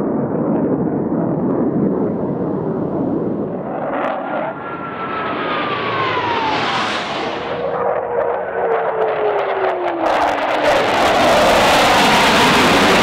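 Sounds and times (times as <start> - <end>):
jet engine whine: 0.0 - 13.0
jet flying past: 0.1 - 13.0.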